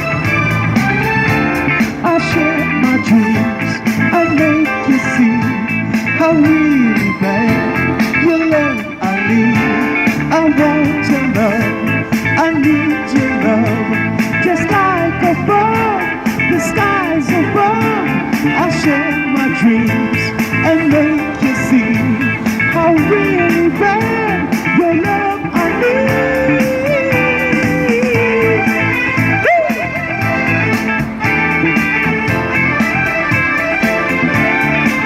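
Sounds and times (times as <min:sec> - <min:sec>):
rock song with guitar: 0:00.0 - 0:35.0.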